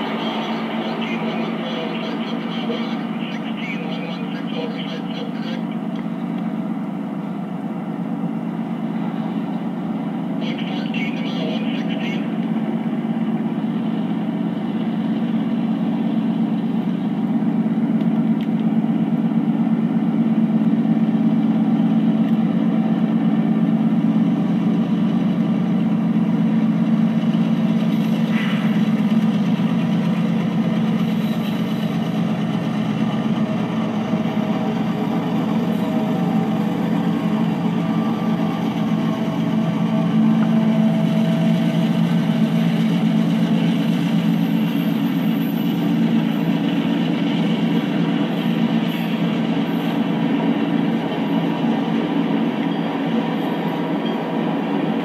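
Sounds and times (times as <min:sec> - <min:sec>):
diesel locomotive engines droning: 0:00.0 - 0:55.0.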